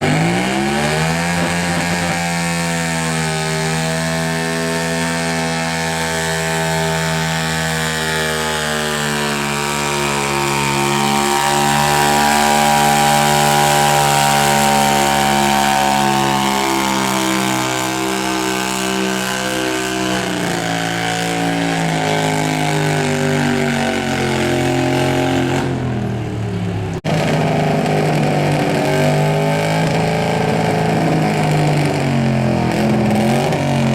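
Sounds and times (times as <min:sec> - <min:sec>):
tractor engine at full throttle: 0:00.0 - 0:33.9.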